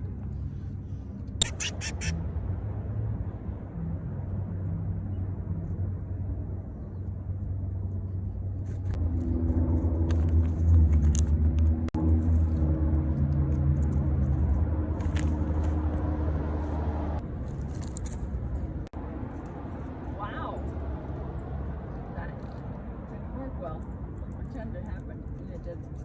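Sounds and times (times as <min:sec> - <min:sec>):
vehicle engine running: 0:00.0 - 0:22.4.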